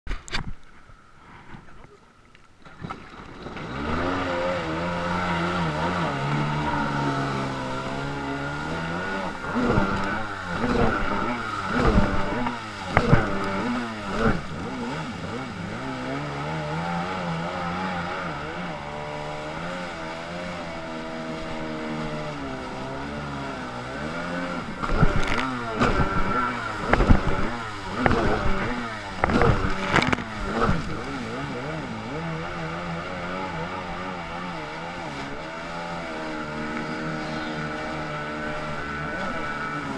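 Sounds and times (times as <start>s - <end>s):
water slapping against hull: 1.5s - 39.9s
jet ski engine running: 2.7s - 39.9s.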